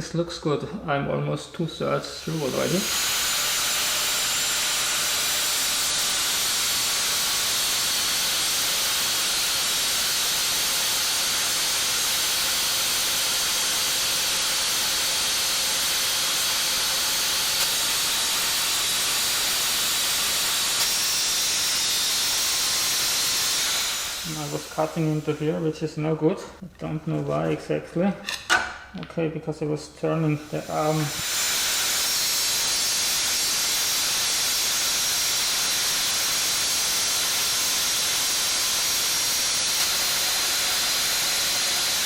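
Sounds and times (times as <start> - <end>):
angle grinder cutting steel: 2.2 - 25.5, 30.3 - 42.0.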